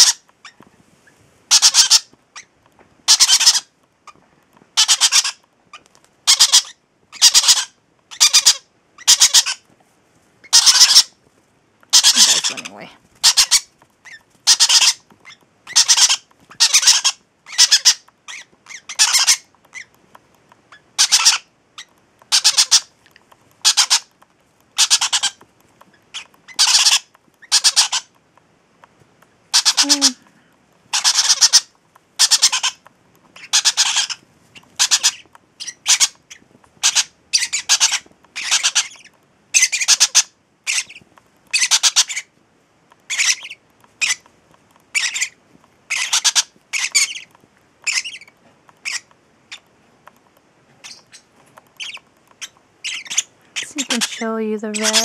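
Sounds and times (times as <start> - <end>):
parrot chicks squawking: 0.0 - 0.7, 1.5 - 9.6, 10.4 - 11.2, 11.8 - 20.0, 20.6 - 28.2, 29.5 - 55.0.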